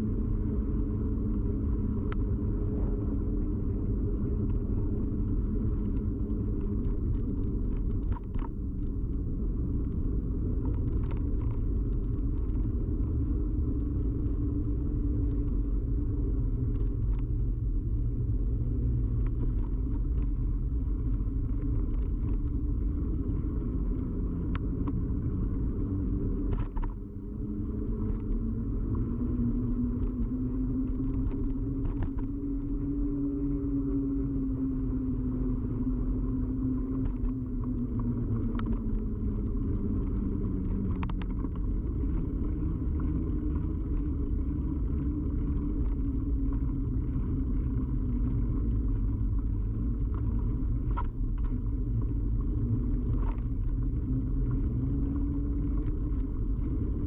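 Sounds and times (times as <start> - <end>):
bicycle tyre rumble: 0.0 - 57.0
hum rising and falling: 0.0 - 57.0.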